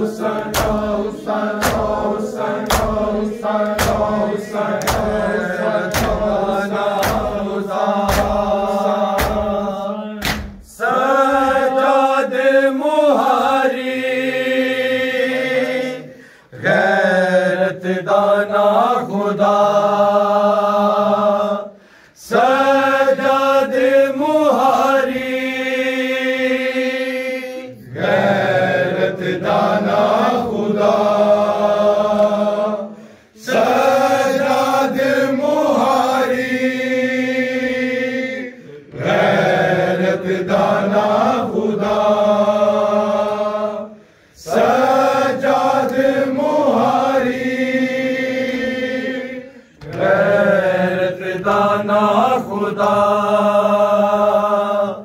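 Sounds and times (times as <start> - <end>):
men chanting a lament: 0.0 - 55.0.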